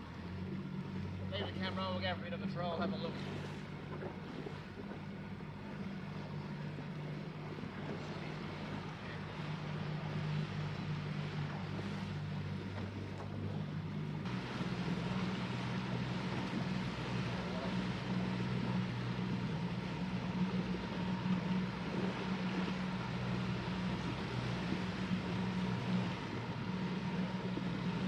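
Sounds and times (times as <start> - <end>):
outboard motor running: 0.0 - 28.0
wind and water rushing: 0.0 - 28.0.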